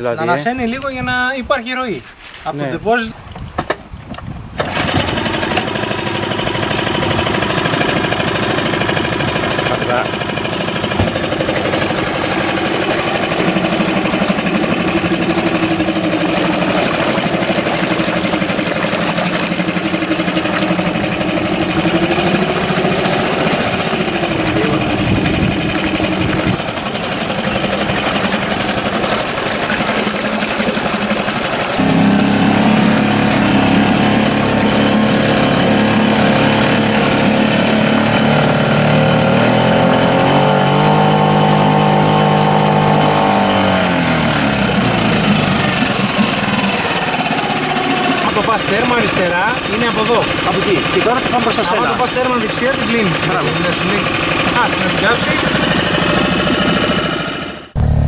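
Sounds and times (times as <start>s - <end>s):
propeller churning water: 4.6s - 57.8s
outboard engine running: 4.6s - 58.0s.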